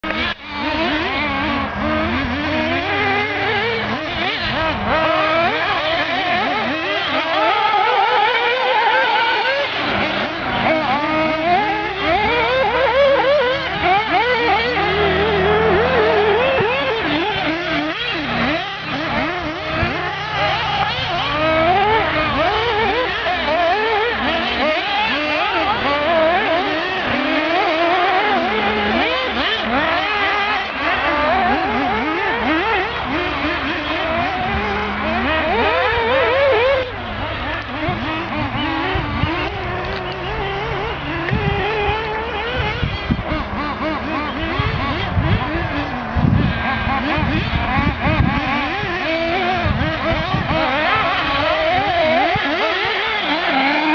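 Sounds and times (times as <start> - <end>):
model car motors revving: 0.0 - 53.9.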